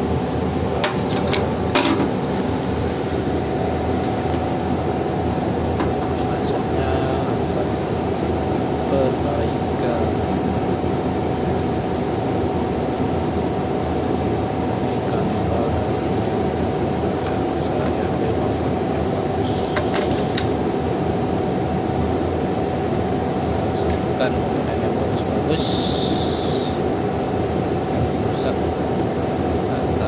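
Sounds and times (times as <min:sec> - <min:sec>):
mechanical hum and hiss: 0:00.0 - 0:30.0.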